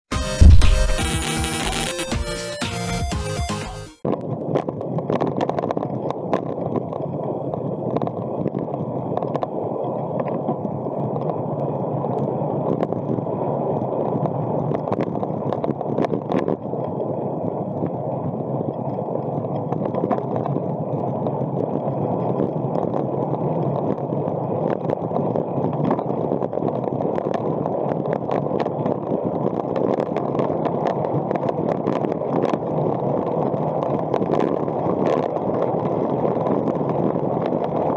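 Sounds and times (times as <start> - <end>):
bicycle tyres on road: 4.1 - 37.9.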